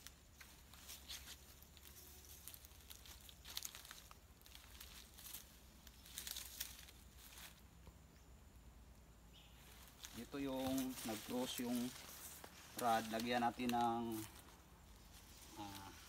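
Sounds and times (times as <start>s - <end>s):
footsteps through grass: 0.0s - 7.8s, 9.4s - 16.0s.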